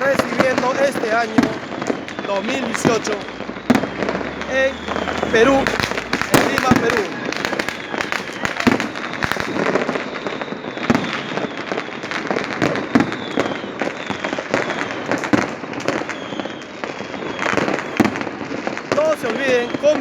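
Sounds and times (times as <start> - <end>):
firework bangs: 0.0 - 20.0
fireworks crackling: 0.0 - 20.0
whistling rockets: 0.0 - 20.0.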